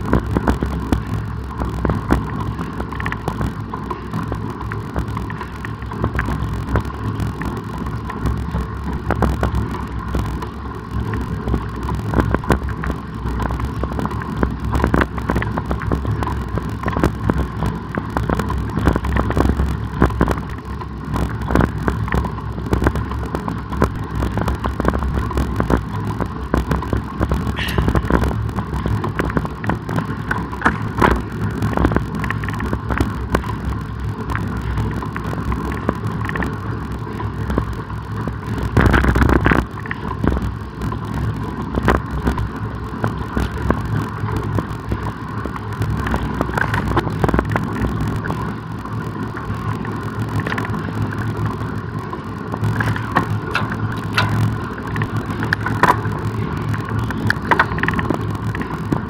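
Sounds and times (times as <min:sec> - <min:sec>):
bicycle rattles and knocks: 0:00.0 - 0:59.0.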